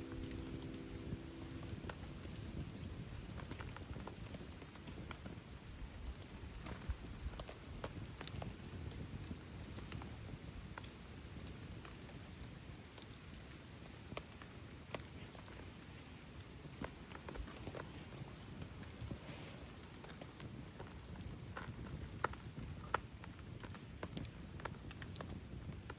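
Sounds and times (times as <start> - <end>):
campfire crackling and popping: 0.0 - 25.9
rain pattering: 0.0 - 25.9.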